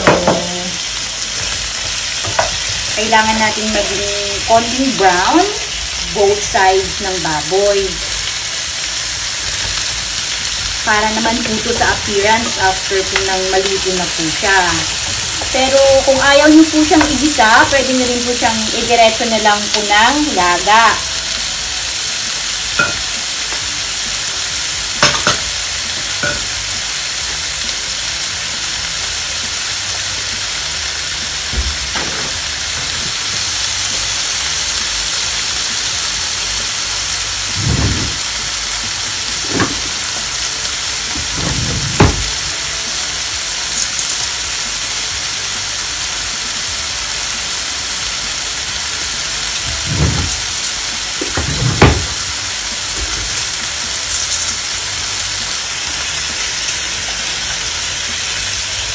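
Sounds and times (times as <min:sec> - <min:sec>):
meat sizzling in oil: 0:00.0 - 0:58.9.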